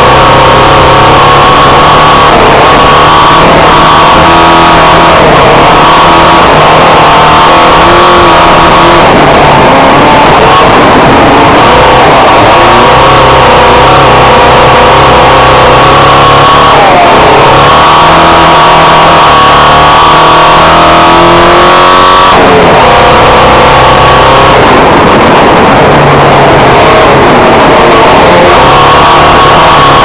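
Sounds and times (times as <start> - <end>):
car engine under hard throttle: 0.0 - 30.0.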